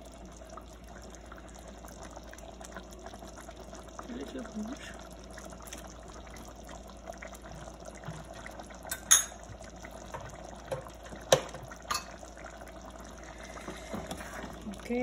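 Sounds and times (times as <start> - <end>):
stew bubbling in pot: 0.0 - 15.0.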